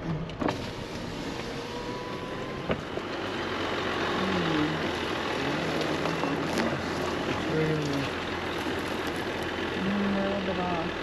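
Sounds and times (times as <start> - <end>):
engine and tyres rumbling: 0.0 - 11.0.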